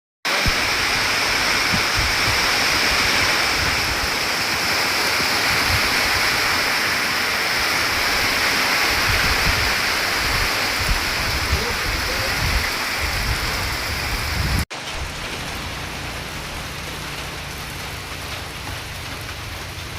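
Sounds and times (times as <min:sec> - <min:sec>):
heavy rain falling: 0:00.2 - 0:19.9.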